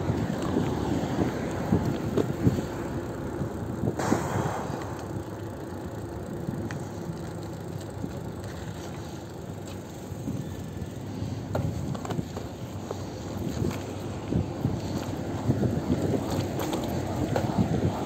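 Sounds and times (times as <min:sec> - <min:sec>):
bike clicks and rattles: 0:00.0 - 0:18.0
wind and tyre noise: 0:00.0 - 0:18.0.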